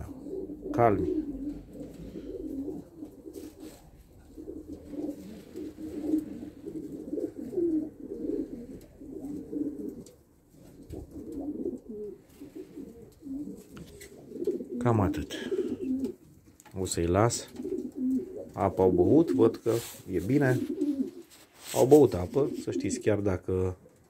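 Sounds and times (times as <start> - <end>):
pigeons cooing: 0.0 - 16.6, 17.3 - 23.1.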